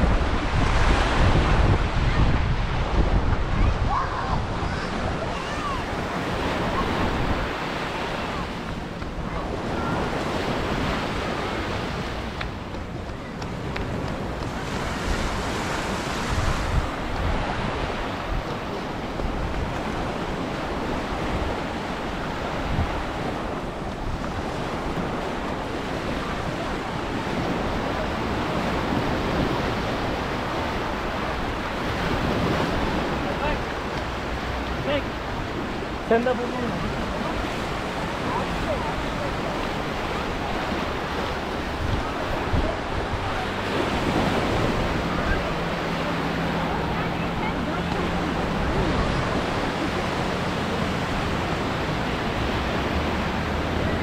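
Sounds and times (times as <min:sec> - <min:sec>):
sea waves washing onto beach: 0:00.0 - 0:54.0
wind buffeting microphone: 0:00.0 - 0:54.0.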